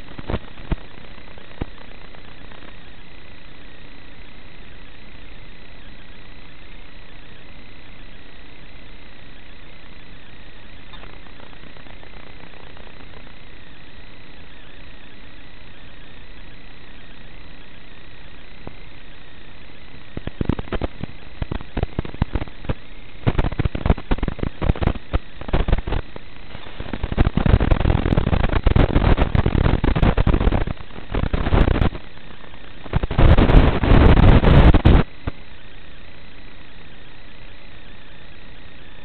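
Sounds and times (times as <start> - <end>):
crackling static bursts: 0.0 - 39.0
steady radio hiss: 0.0 - 39.0.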